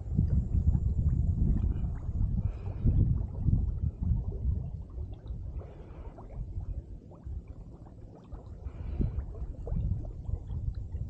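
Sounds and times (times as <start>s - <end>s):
low rumble: 0.0s - 11.0s
river water gurgling and splashing: 0.0s - 11.0s.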